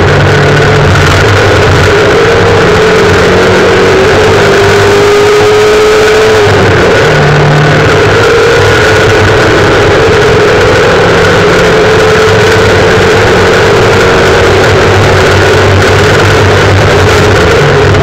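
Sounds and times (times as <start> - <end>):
gravel and road noise: 0.0 - 18.0
rally car engine running hard: 0.0 - 18.0.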